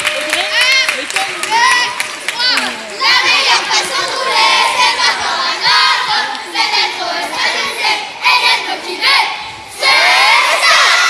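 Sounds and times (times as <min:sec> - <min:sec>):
children shouting and cheering: 0:00.0 - 0:11.0.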